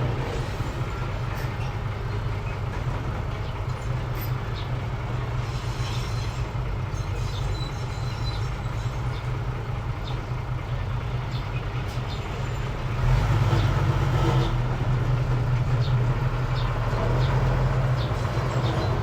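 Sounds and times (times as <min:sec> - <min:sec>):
earth-moving machine engine drone: 0:00.0 - 0:19.0.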